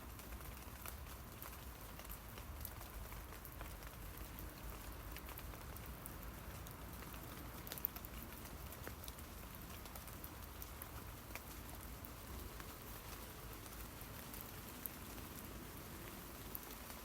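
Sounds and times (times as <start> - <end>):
light rain on leaves: 0.0 - 17.0.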